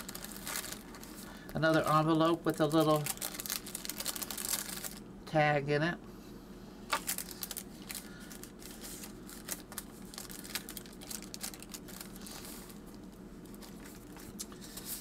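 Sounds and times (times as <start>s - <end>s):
paper rustling and crinkling: 0.0s - 5.0s, 6.9s - 15.0s.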